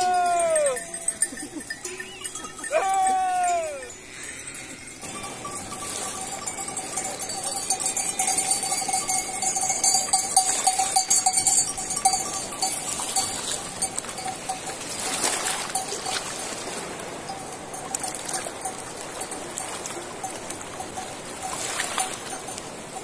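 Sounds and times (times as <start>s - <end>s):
livestock bells clanking: 0.0s - 16.4s, 17.0s - 23.0s.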